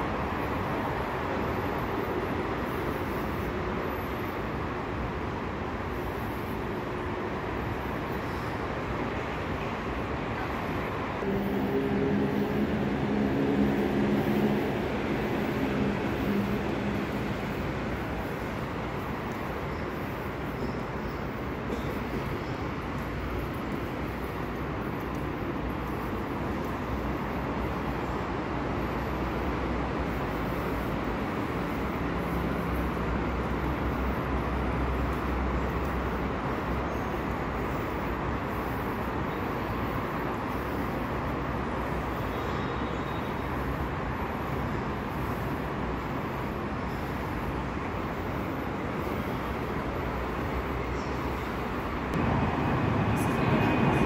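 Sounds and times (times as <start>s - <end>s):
railway station background rumble: 0.0s - 54.0s.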